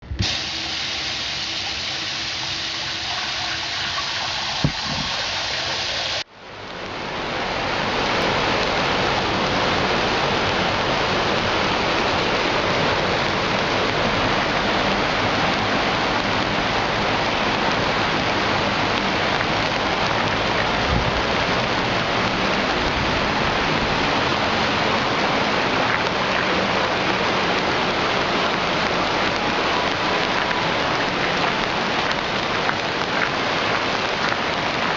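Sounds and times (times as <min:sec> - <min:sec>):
heavy rain: 0:00.0 - 0:34.9
storm runoff rushing down a street: 0:00.0 - 0:34.9.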